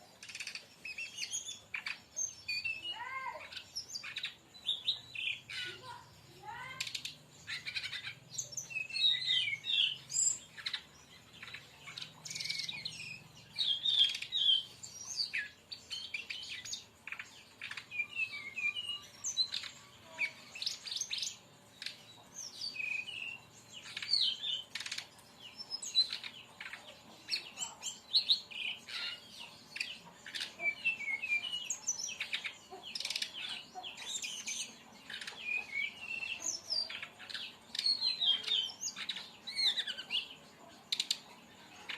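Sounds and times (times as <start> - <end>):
bird singing rapid chirps: 0.0 - 41.9.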